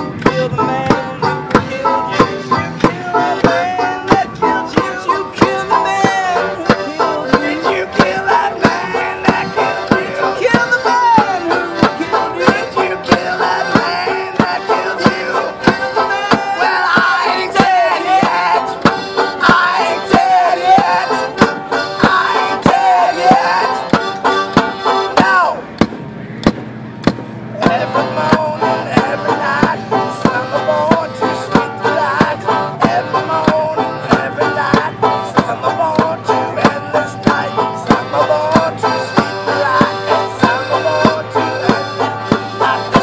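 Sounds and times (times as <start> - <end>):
man singing: 0.0 - 25.7, 27.6 - 43.0
accordion chords: 0.0 - 43.0
banjo picking: 0.0 - 43.0.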